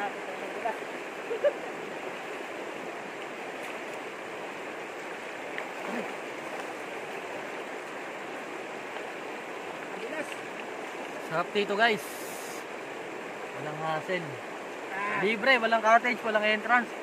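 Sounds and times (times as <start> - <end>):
river running over rapids: 0.0 - 17.0.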